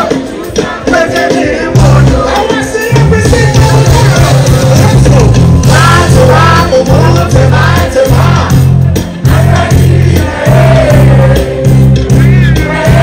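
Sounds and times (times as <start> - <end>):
pulsing bass beat: 0.0 - 13.0.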